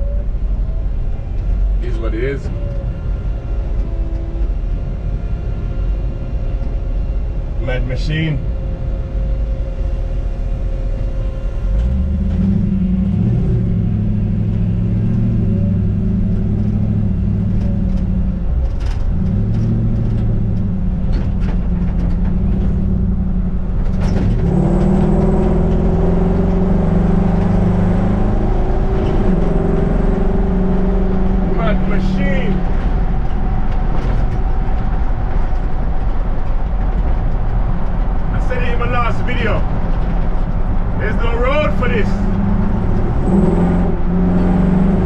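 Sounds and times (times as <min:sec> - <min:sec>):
road rumble: 0:00.0 - 0:45.0
truck engine revving: 0:07.4 - 0:45.0.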